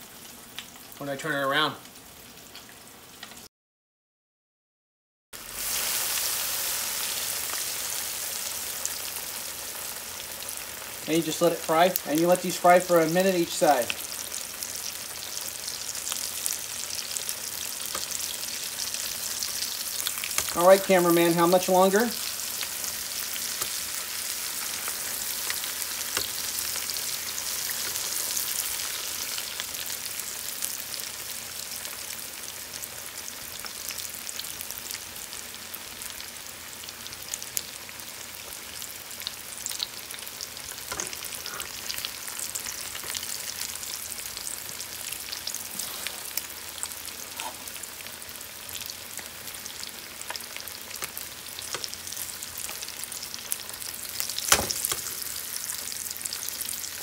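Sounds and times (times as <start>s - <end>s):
chicken sizzling in hot oil: 5.4s - 57.0s.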